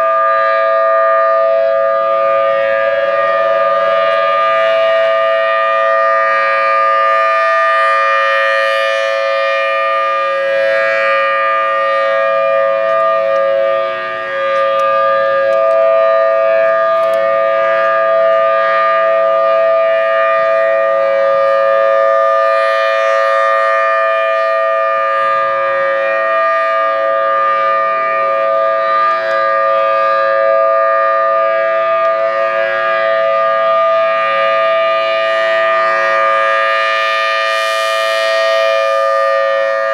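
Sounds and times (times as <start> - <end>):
two-tone siren wail: 0.0 - 39.9.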